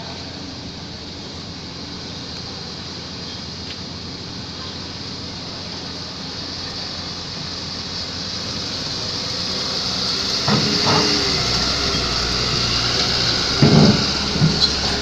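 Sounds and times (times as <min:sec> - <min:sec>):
heavily loaded truck rumbling: 0:00.0 - 0:15.0.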